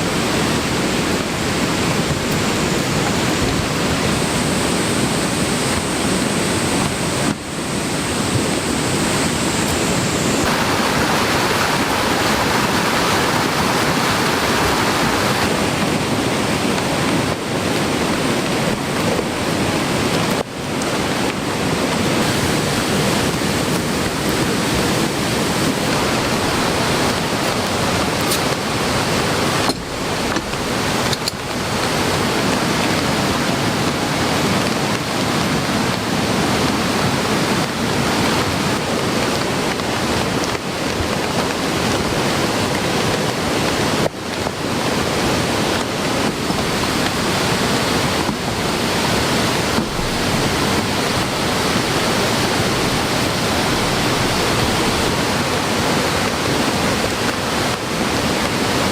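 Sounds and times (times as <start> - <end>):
heavy rain: 0.0 - 58.9
stream rushing in flood: 0.0 - 58.9.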